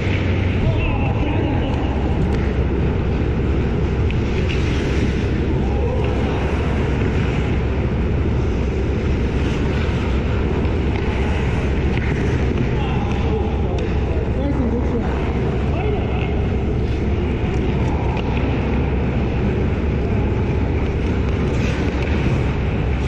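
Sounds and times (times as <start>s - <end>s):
ice rink rumbling: 0.0s - 23.0s.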